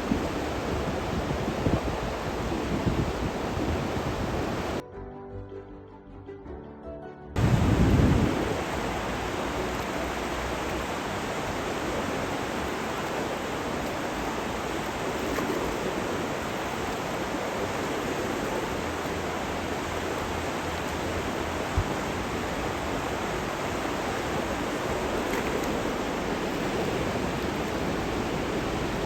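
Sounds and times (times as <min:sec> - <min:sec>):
river water rushing: 0:00.0 - 0:04.8, 0:07.4 - 0:29.0.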